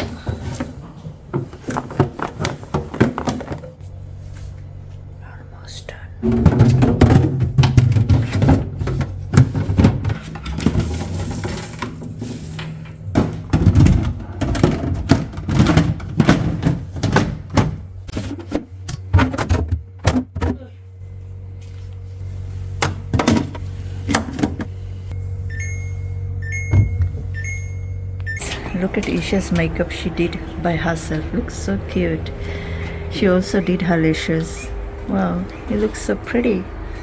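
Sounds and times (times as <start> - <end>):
fridge low hum: 0.0 - 37.0.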